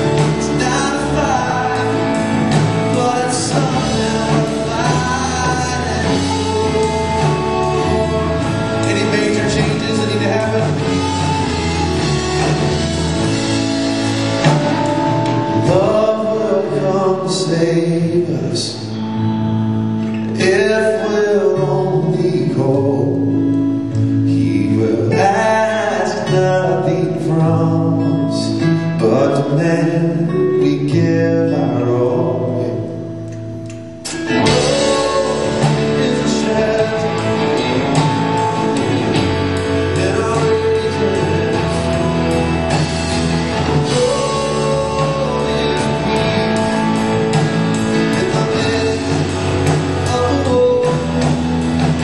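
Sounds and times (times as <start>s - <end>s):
man singing: 0.0s - 19.1s, 20.2s - 33.2s, 34.1s - 52.0s
acoustic guitar: 0.0s - 52.0s
bass guitar: 0.0s - 52.0s
electric guitar: 0.0s - 52.0s.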